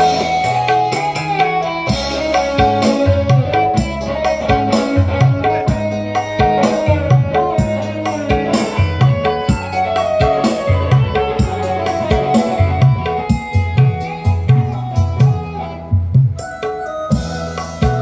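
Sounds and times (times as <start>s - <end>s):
loud music with heavy bass: 0.0s - 18.0s.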